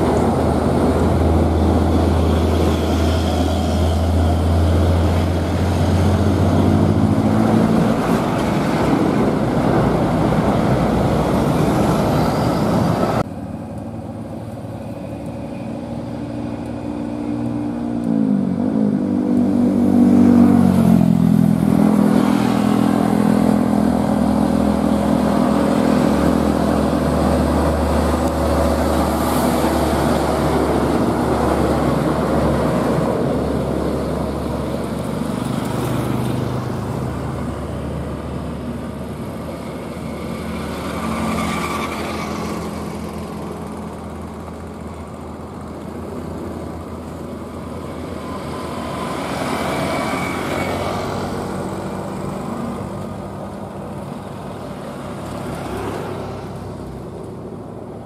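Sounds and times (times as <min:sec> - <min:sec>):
diesel truck engine drone: 0:00.0 - 0:58.0
trucks passing close by: 0:00.0 - 0:58.0.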